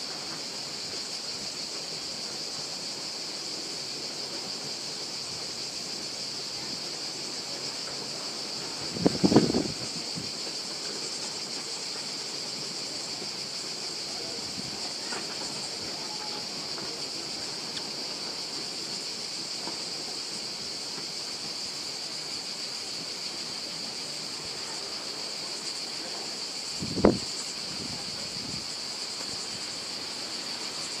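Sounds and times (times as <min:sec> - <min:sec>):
cicadas buzzing: 0:00.0 - 0:31.0.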